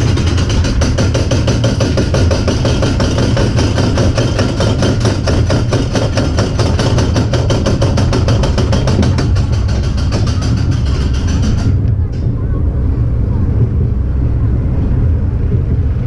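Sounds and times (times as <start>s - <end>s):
roller coaster clattering on track: 0.0s - 16.0s.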